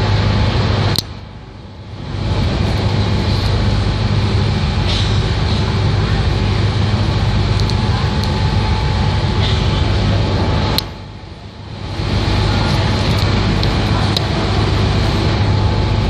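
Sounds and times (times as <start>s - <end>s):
ferry engine humming: 0.0s - 16.0s
water rushing along hull: 0.0s - 16.0s.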